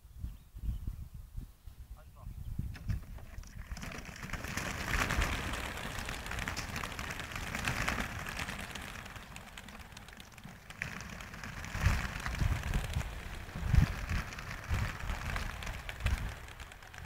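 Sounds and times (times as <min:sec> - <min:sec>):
pigeon wings fluttering: 0:02.8 - 0:17.0.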